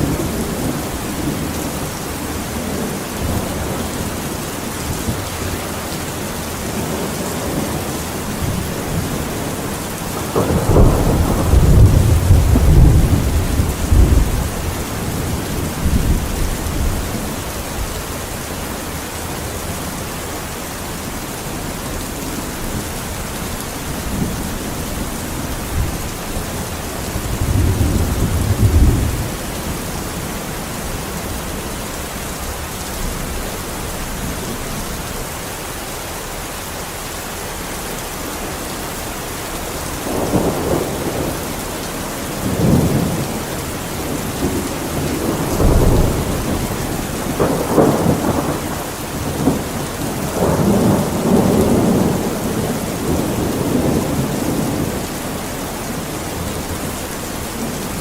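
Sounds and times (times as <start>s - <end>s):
thunder rumbling: 0.0s - 35.4s, 39.7s - 58.0s
steady rain: 0.0s - 58.0s.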